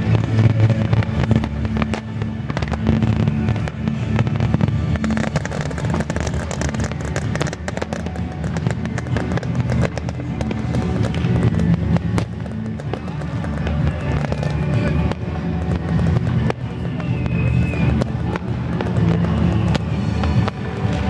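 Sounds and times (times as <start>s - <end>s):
fireworks crackling and popping: 0.0s - 21.0s
music playing: 0.0s - 21.0s.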